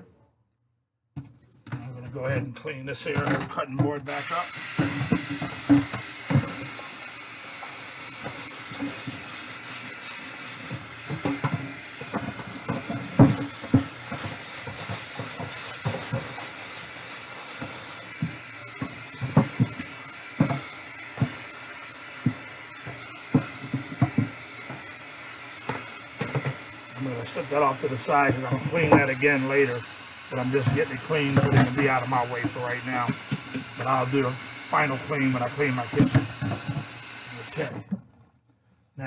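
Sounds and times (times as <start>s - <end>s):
faucet running into metal sink: 3.8s - 37.9s.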